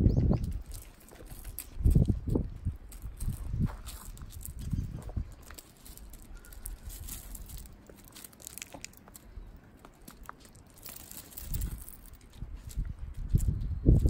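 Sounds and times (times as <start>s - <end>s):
paws and feet crunching on gravel: 0.1s - 14.0s.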